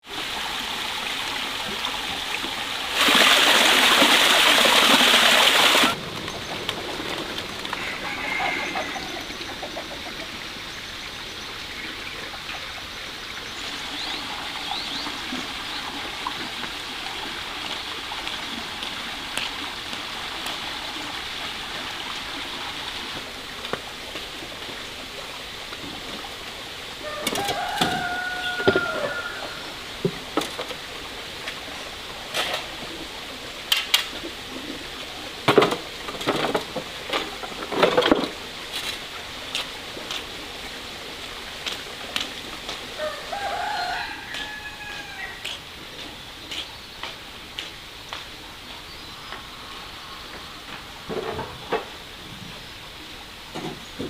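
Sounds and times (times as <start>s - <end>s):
water trickling: 0.0s - 47.7s.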